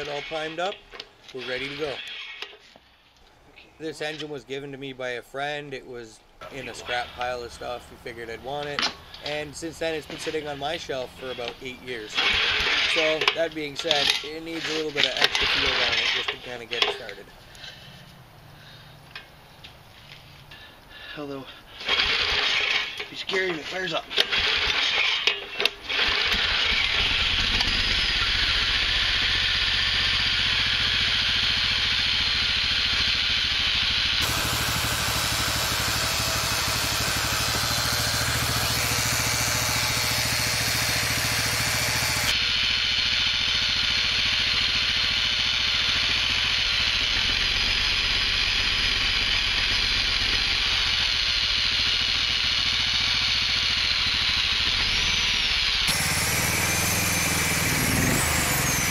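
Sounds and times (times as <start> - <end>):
engine running: 6.2 - 20.8, 24.1 - 58.9
recoil starter tugs: 6.4 - 58.9.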